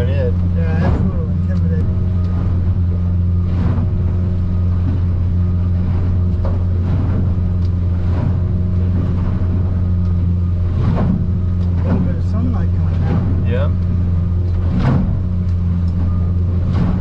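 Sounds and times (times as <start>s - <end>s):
outboard motor droning: 0.0s - 17.0s
water splashing: 0.0s - 17.0s.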